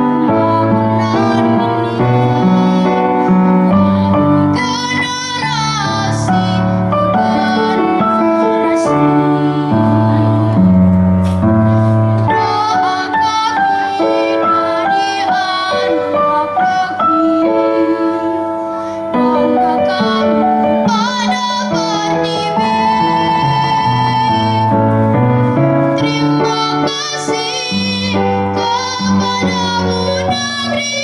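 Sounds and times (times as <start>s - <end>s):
girl singing into a microphone: 0.0s - 31.0s.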